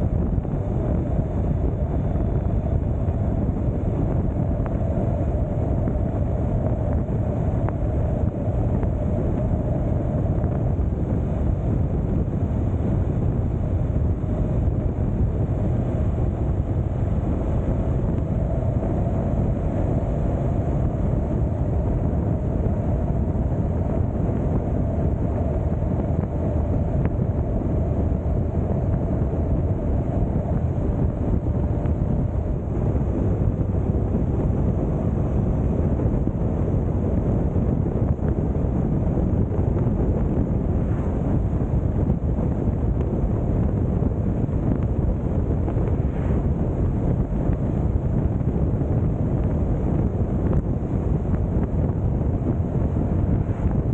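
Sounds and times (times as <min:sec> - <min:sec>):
engine and road noise drone: 0:00.0 - 0:53.9
wind buffeting microphone: 0:00.0 - 0:53.9.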